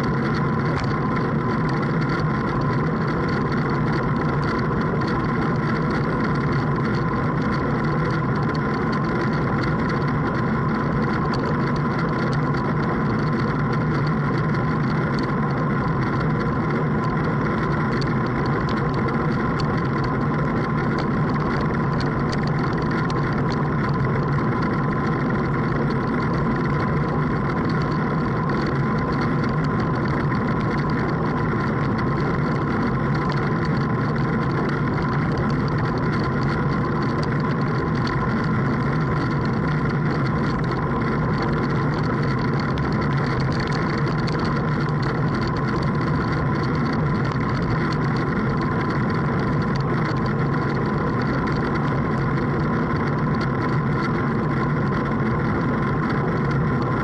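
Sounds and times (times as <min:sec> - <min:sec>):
motorboat engine droning: 0:00.0 - 0:57.0.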